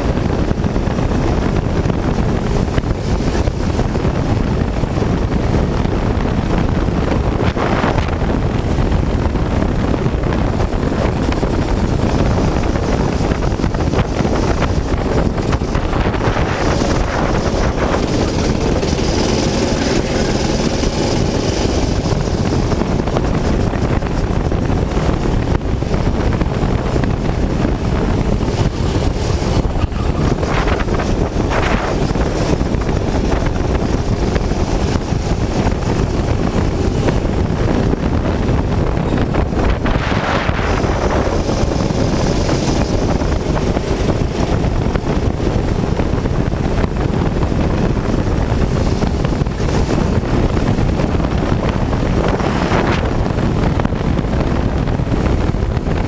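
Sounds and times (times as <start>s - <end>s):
go-kart engine racing: 0.0s - 56.0s
wind buffeting microphone: 0.0s - 56.0s.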